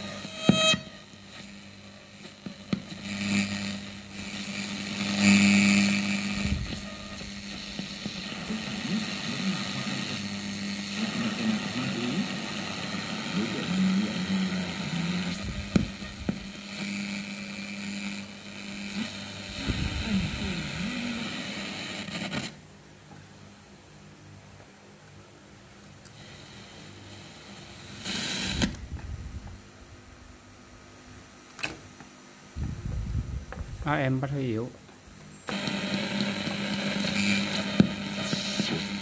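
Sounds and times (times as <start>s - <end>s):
radio static hiss: 0.0s - 25.2s, 26.1s - 39.0s.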